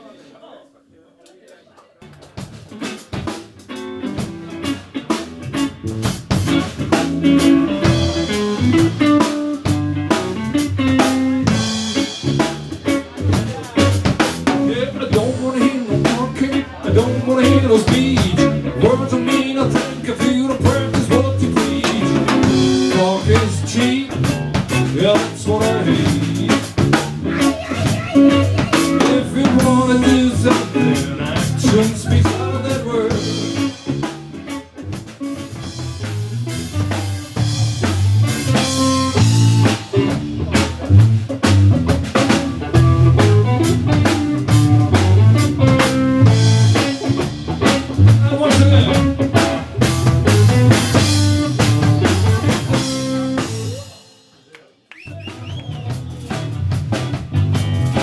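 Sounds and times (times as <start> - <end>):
electric guitar: 2.0 - 54.1, 55.3 - 58.0
drum kit with snare rimshots: 2.0 - 58.0.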